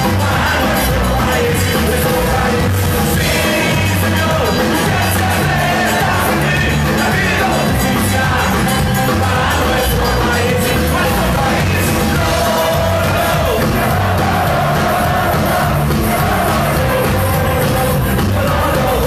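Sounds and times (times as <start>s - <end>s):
live band playing loud music: 0.0s - 19.0s
person singing: 0.0s - 19.0s.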